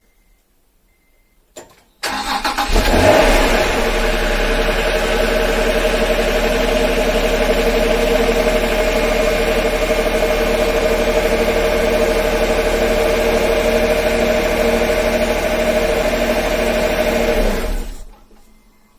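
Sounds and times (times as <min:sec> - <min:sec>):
car engine starting and idling: 0:02.0 - 0:18.5.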